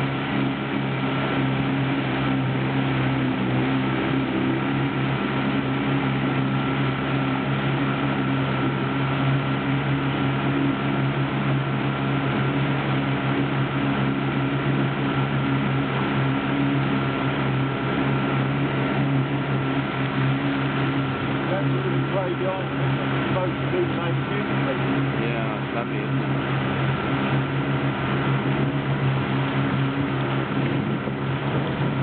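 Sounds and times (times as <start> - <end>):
motorboat engine running: 0.0 - 32.0
water rushing past hull: 0.0 - 32.0.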